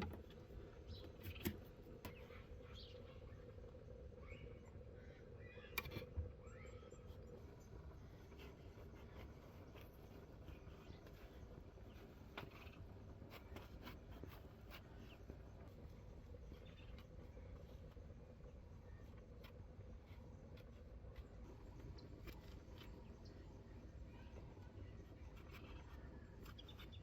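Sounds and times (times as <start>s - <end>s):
faint background hum: 0.0s - 27.0s.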